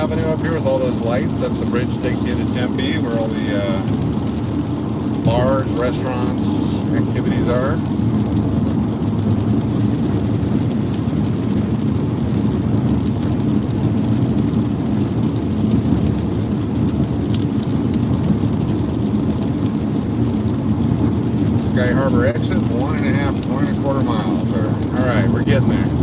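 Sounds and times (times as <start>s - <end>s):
road and engine rumble in car: 0.0s - 26.0s
wet tyres and rain hiss: 0.0s - 26.0s.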